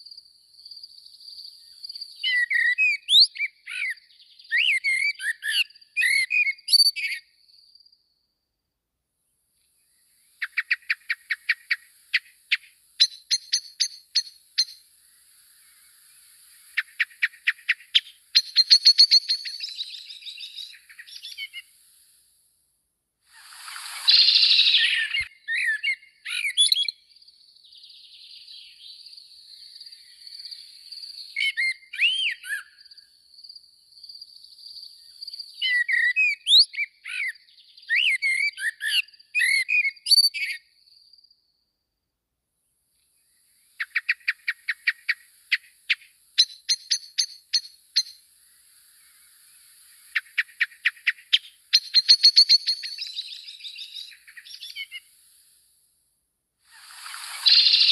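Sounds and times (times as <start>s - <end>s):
small birds chirping: 0.0s - 8.2s, 9.6s - 22.2s, 23.3s - 41.5s, 43.0s - 55.7s, 56.7s - 57.9s.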